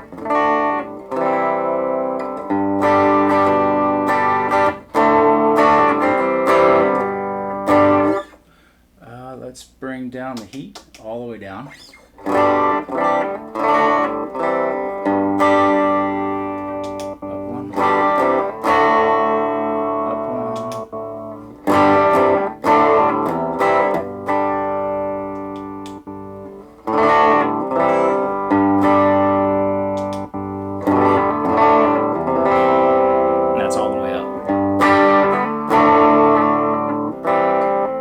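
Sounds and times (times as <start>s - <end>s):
electric guitar chords ringing: 0.0s - 8.5s, 11.8s - 38.0s.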